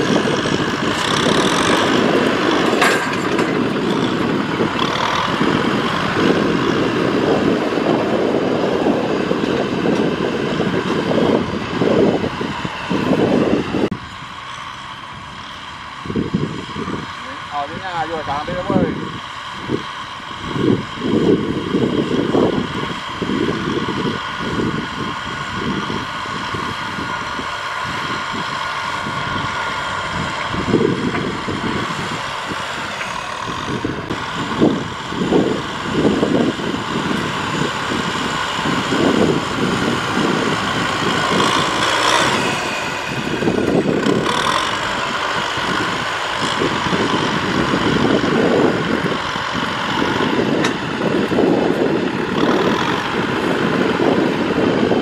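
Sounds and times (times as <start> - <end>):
ploughs rumbling through soil: 0.0 - 55.0
tractor diesel engines under load: 0.0 - 55.0.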